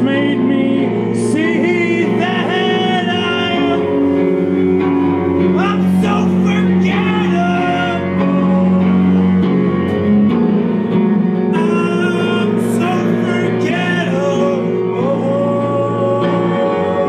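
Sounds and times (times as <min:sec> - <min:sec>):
man singing: 0:00.0 - 0:10.4, 0:11.4 - 0:17.0
acoustic guitar chords: 0:00.0 - 0:17.0.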